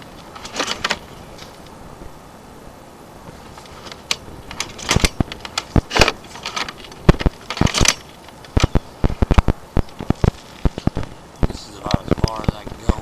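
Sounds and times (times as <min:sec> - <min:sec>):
sharp clicks and knocks: 0:00.0 - 0:01.8, 0:03.3 - 0:13.0.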